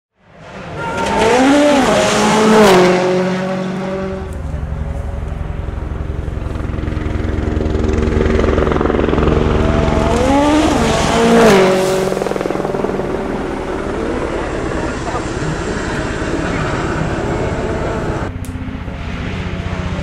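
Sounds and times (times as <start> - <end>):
rally car engine passing: 0.2 - 20.0.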